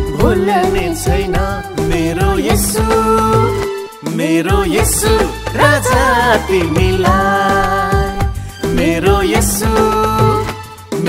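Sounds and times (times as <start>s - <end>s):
instrumental backing music: 0.0s - 11.0s
man singing: 0.0s - 11.0s.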